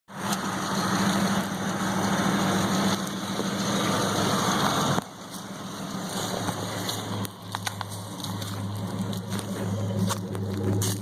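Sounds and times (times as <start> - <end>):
rough engine exhaust drone: 0.1 - 11.0.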